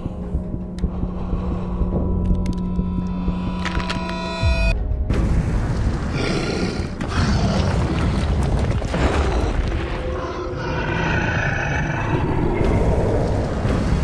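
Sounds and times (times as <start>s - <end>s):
film music: 0.0s - 14.0s.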